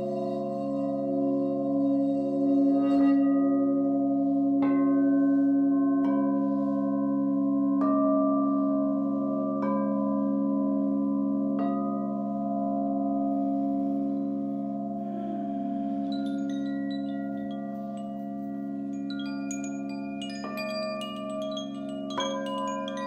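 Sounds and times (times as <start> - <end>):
singing bowls ringing: 0.0 - 23.0.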